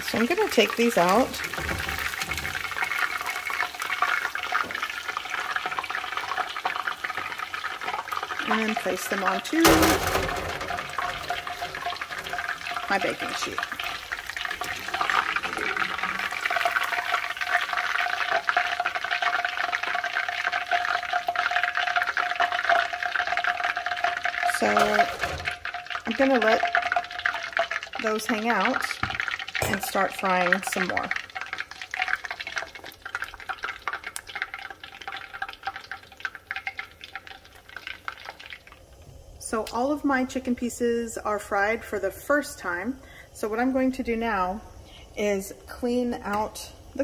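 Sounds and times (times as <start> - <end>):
chicken sizzling in hot oil: 0.0 - 47.0.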